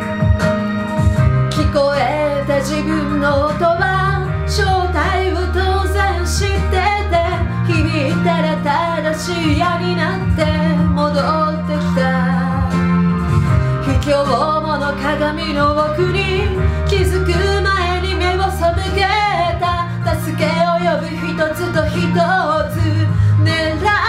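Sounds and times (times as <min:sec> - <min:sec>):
instrumental accompaniment: 0:00.0 - 0:24.0
woman singing: 0:01.5 - 0:13.0, 0:13.8 - 0:24.0.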